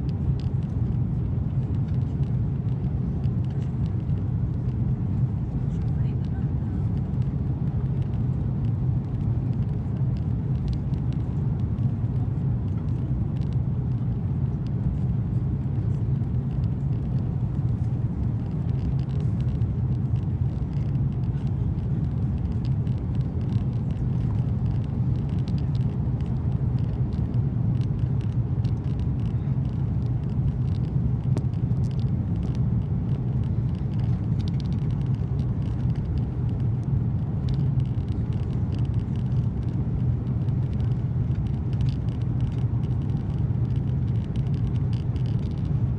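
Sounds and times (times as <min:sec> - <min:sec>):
airliner cabin rumble: 0:00.0 - 0:45.9.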